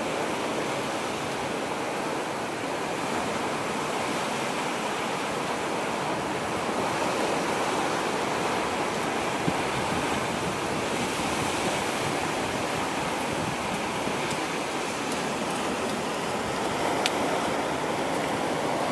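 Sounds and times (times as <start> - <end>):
sea surf breaking on shore: 0.0 - 18.9.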